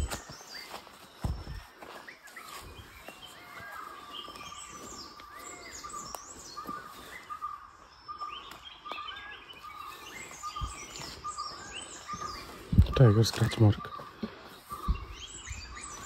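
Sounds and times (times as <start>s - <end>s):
birds chirping and whistling: 0.0s - 16.0s.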